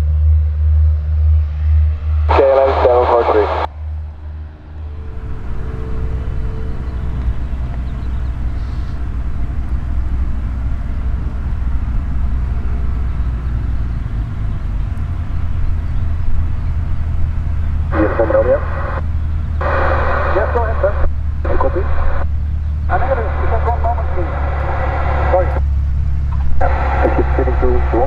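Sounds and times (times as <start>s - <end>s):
distant engine noise: 0.0s - 28.0s
faint droning tone: 0.0s - 28.0s.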